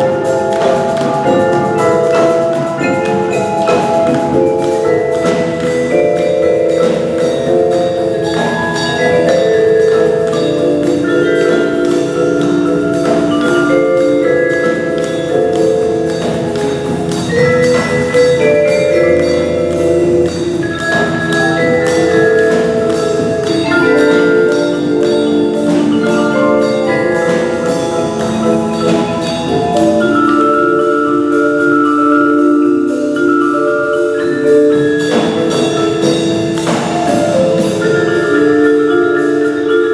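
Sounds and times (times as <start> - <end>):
marimbas and xylophones playing: 0.0 - 39.9.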